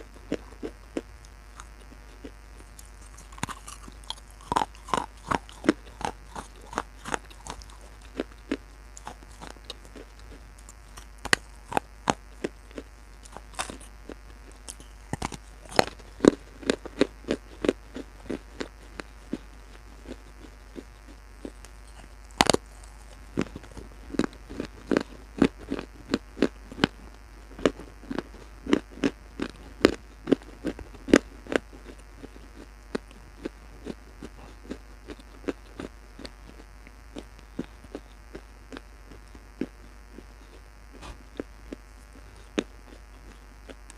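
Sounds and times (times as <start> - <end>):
chewing crunchy clay pieces: 0.0 - 43.9.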